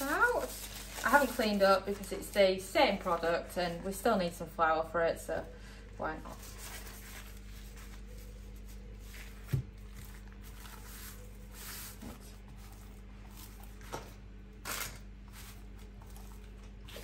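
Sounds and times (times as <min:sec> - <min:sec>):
paper rustling: 0:00.0 - 0:03.2, 0:06.3 - 0:17.0
faint steady hum: 0:00.0 - 0:17.0.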